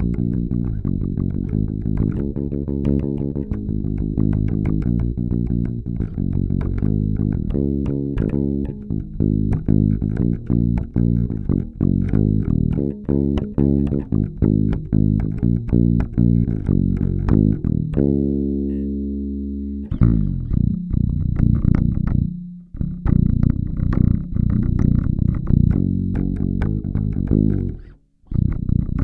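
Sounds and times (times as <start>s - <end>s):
electric bass plucked notes: 0.0s - 29.0s.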